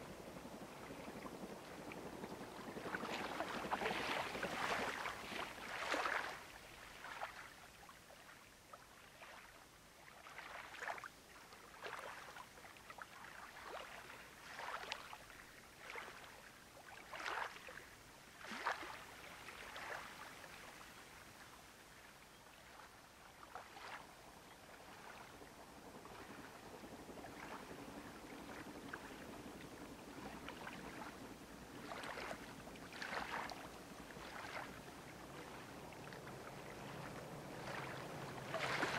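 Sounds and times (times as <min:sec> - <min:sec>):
small waves lapping on shore: 0:00.0 - 0:38.9.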